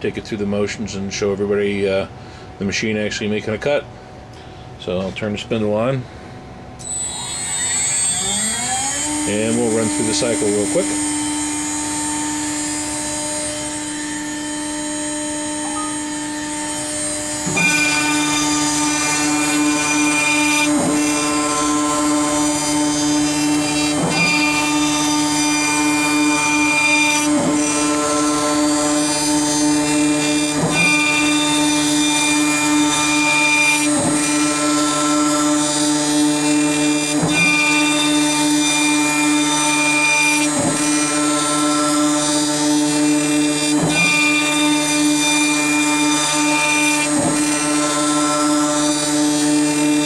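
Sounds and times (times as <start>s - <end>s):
end mill cutting wood: 6.8s - 50.0s
router spindle whine: 6.8s - 50.0s.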